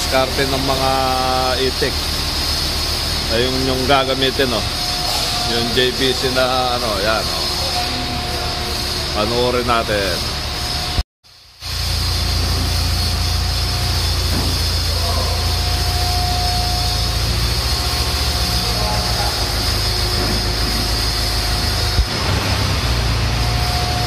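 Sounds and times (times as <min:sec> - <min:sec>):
diesel engine rumbling: 0:00.0 - 0:24.0
thin high whine: 0:00.0 - 0:24.0.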